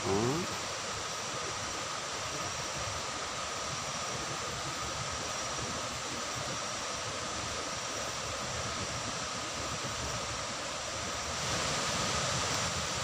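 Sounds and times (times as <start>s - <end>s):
distant waterfall rushing: 0.0s - 13.0s.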